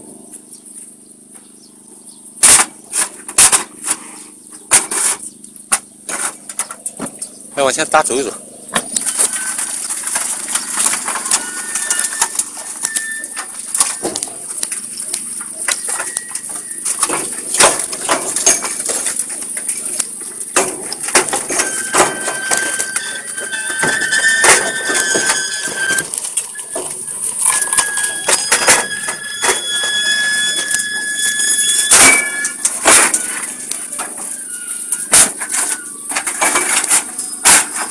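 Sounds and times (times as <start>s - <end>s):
high squeaks: 7.6s - 37.9s.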